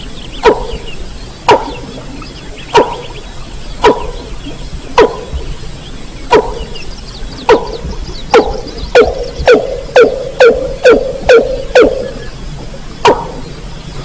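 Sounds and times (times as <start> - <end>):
rail bird call: 0.0 - 14.0.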